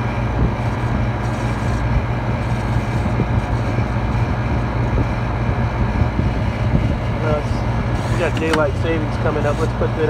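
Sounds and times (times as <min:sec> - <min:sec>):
refrigeration unit humming: 0:00.0 - 0:10.0.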